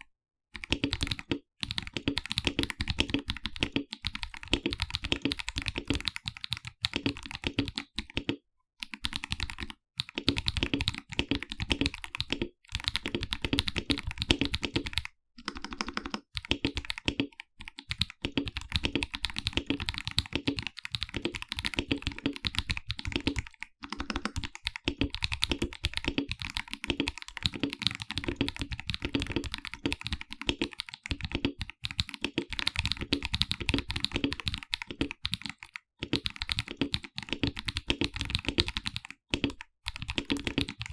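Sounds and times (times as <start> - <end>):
typing on mechanical keyboard: 0.6 - 40.9.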